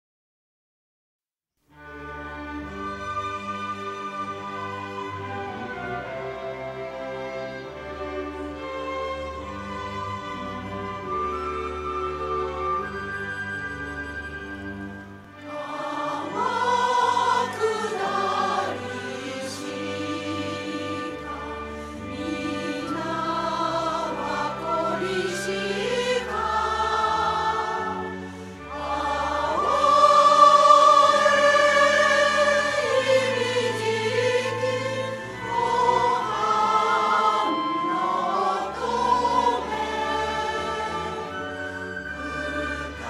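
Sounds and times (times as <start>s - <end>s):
instrumental accompaniment: 1.7s - 43.0s
choir singing: 1.8s - 43.0s.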